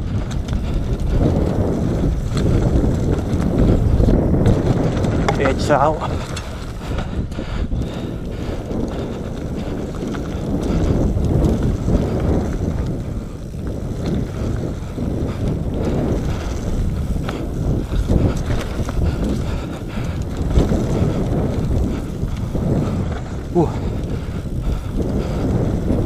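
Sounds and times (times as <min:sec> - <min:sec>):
bike knocks and rattles: 0:00.0 - 0:08.0, 0:08.6 - 0:26.0
tyres rumbling on dirt trail: 0:00.0 - 0:26.0
wind buffeting microphone: 0:00.0 - 0:26.0.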